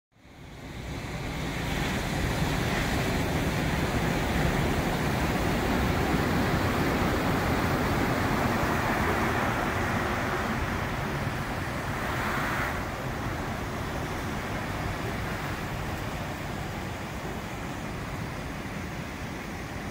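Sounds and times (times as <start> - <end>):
surf breaking on shore: 1.2 - 19.9.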